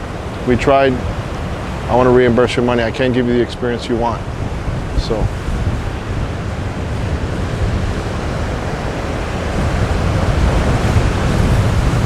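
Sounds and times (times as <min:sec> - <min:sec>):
surf and breaking waves: 0:00.0 - 0:12.0
wind buffeting microphone: 0:00.0 - 0:12.0.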